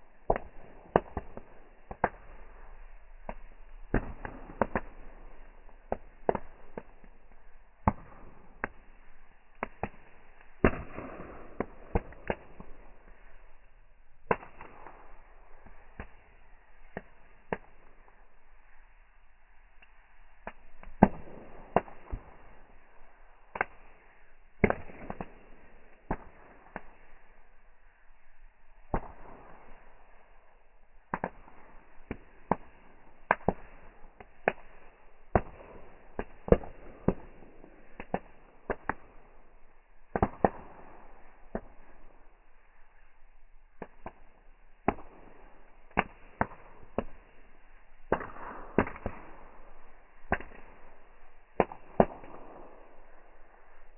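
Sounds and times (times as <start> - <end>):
bonfire crackling: 0.0 - 53.9.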